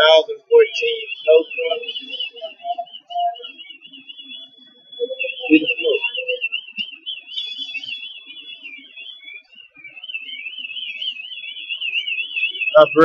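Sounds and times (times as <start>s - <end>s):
steady high tone: 0.0s - 11.0s, 12.0s - 13.0s
electronic siren warbling: 0.0s - 13.0s.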